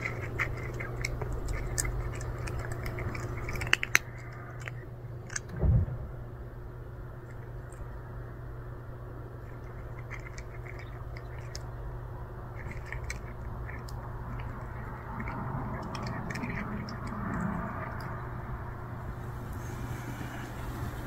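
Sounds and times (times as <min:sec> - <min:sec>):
cat crunching dry kibble: 0:00.0 - 0:05.5, 0:09.2 - 0:21.0
steady low hum: 0:00.0 - 0:21.0.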